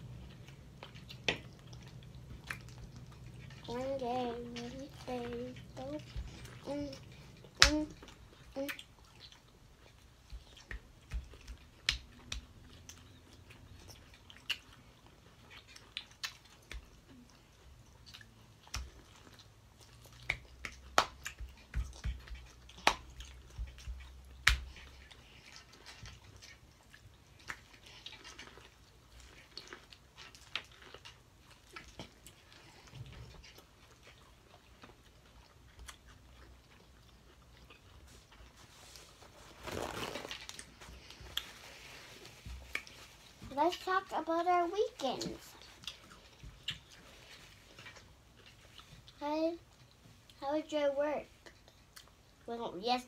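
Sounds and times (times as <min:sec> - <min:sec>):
biting and chewing corn: 0:00.0 - 0:52.5.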